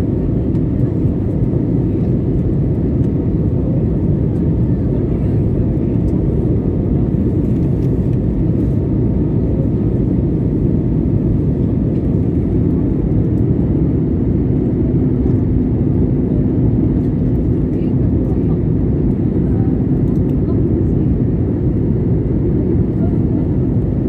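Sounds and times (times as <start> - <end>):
jet engine cabin rumble: 0.0 - 24.0.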